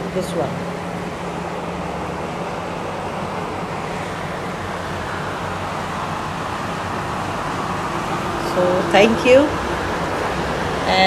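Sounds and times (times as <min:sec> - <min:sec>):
highway traffic on wet roads: 0:00.0 - 0:11.0.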